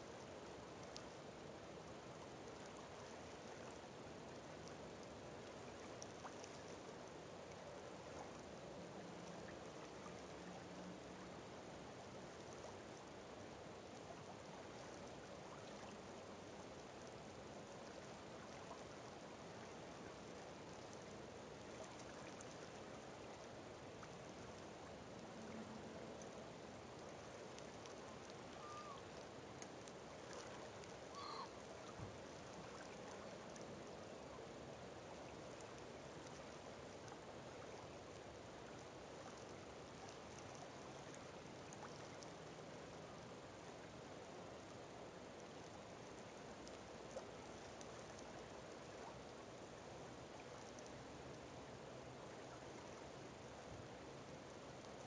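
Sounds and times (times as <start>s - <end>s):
faint ticks: 0.0s - 1.2s, 2.1s - 11.3s, 13.8s - 34.4s, 35.1s - 49.2s, 50.4s - 51.4s, 54.8s - 55.0s.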